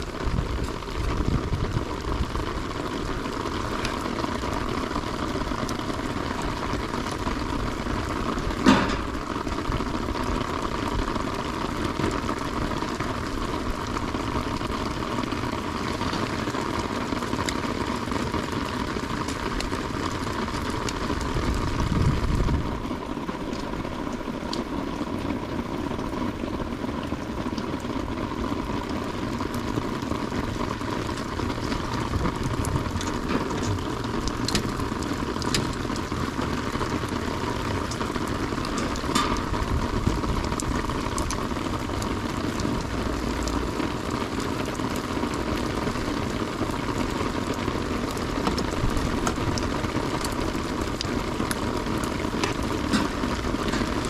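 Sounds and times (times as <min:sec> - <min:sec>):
raindrop ticks: 0:00.0 - 0:54.0
steady rain hiss: 0:00.0 - 0:54.0.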